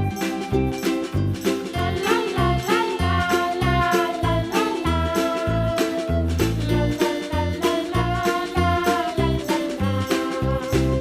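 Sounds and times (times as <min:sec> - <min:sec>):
upbeat children's song music: 0:00.0 - 0:11.0.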